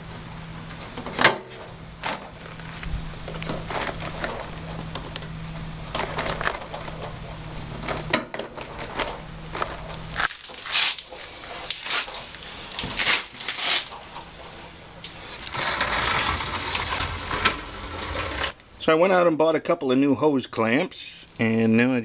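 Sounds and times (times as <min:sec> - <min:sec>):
high insect tone: 0:00.0 - 0:21.9
cricket chirping: 0:00.0 - 0:22.0.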